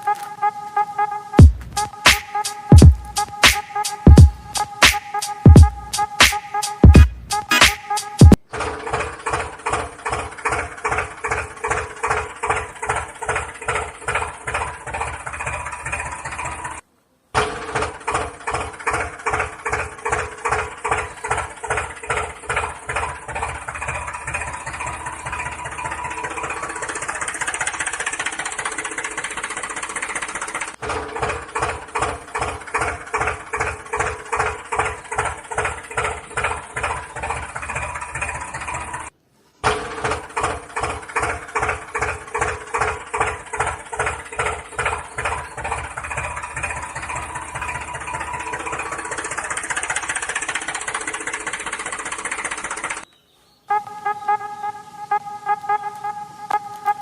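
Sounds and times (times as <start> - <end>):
tractor engine chugging at idle: 1.4 - 53.1, 53.7 - 57.0.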